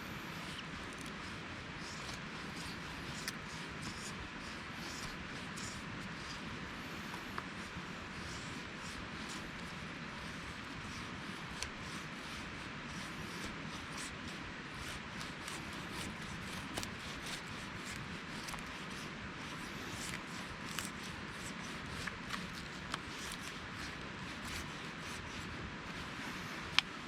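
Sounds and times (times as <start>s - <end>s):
knife scraping wood: 0.0s - 27.0s.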